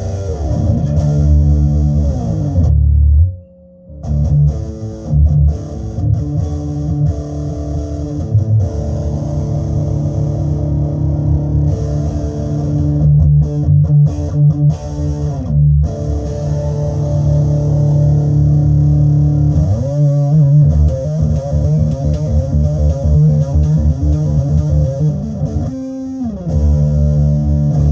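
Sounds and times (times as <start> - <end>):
distorted electric guitar riffing: 0.0 - 27.9.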